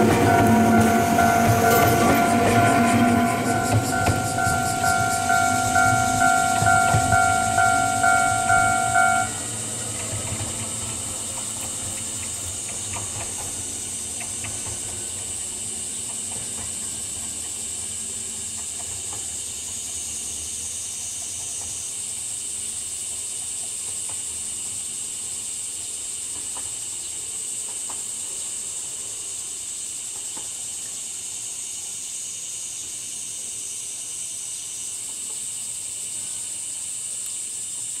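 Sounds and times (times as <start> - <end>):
train clicking over rails: 0.0 - 31.6, 34.0 - 36.2
cicadas chorus: 0.0 - 38.0.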